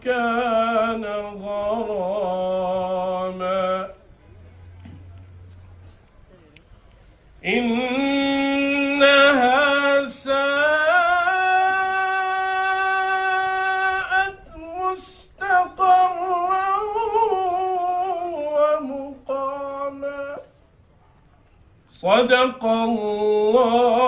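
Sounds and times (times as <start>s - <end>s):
man chanting melodic recitation: 0.0s - 4.1s, 7.4s - 20.6s, 21.9s - 24.0s.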